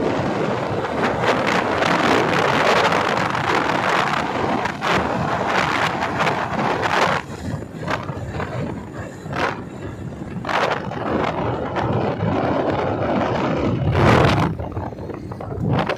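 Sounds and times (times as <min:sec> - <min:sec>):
motorcycle rumbling: 0:00.0 - 0:15.9
wind buffeting microphone: 0:00.0 - 0:15.9.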